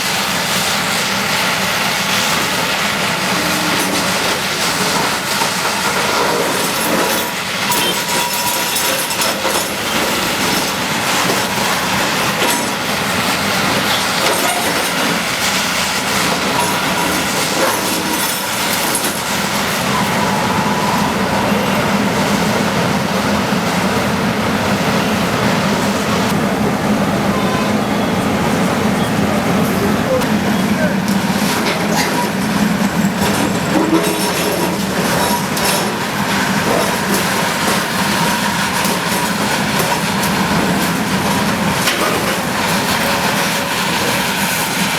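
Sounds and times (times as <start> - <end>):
diesel engine under load: 0.0 - 44.9
metallic clanking of tracks: 0.0 - 44.9.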